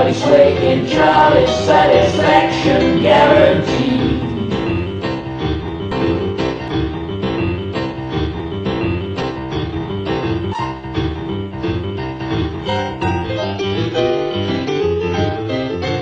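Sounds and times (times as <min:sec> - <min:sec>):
boogie-woogie piano: 0:00.0 - 0:16.0.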